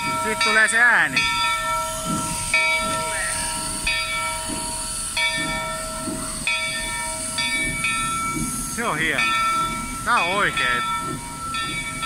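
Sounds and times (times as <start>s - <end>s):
locomotive bell ringing: 0.0s - 12.0s
steam hissing: 0.0s - 12.0s.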